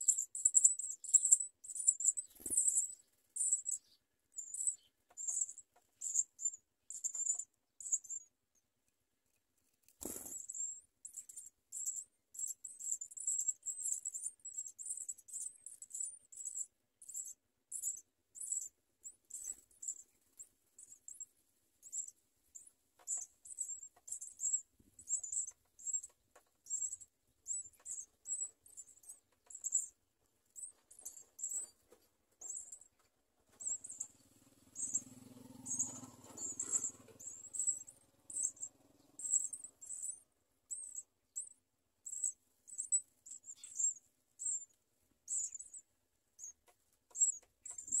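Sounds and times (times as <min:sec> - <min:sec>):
nestlings begging with high cheeps: 0:00.0 - 0:08.4, 0:10.0 - 0:48.0.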